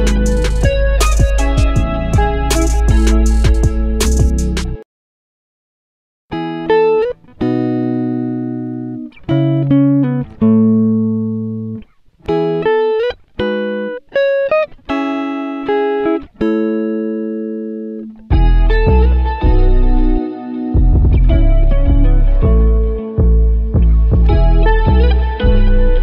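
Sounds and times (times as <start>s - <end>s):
plucked string melody: 0.0s - 4.8s, 6.3s - 26.0s.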